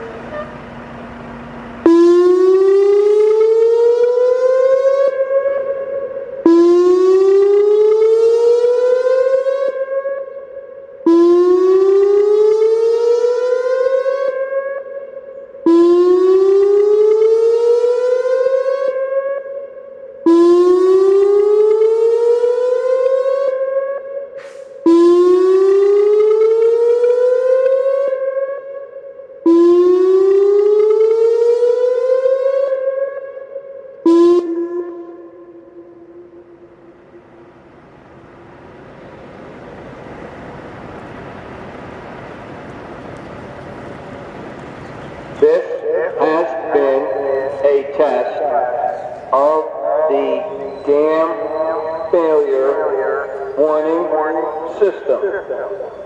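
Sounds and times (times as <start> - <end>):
warning siren whooping: 0.0 - 19.7, 20.3 - 56.0.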